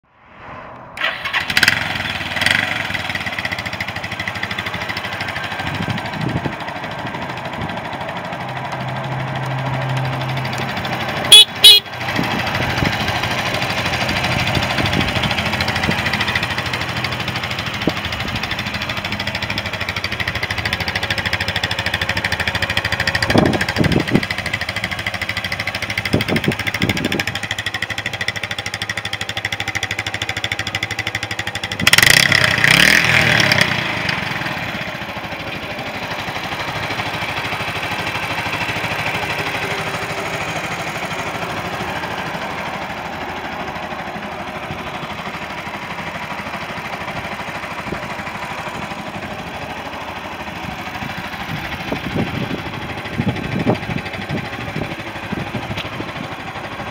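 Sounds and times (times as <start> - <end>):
motorcycle engine idling: 1.0 - 56.9.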